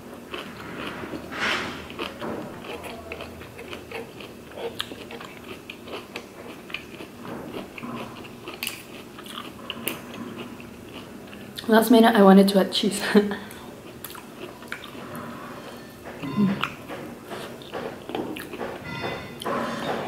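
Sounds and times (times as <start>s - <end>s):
person chewing food: 0.0s - 1.2s, 1.9s - 11.7s, 13.5s - 18.8s.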